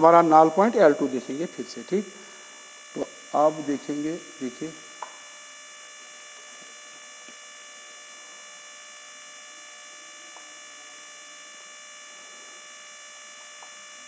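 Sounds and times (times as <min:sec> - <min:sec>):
electrical hum with high whine: 0:00.0 - 0:14.0.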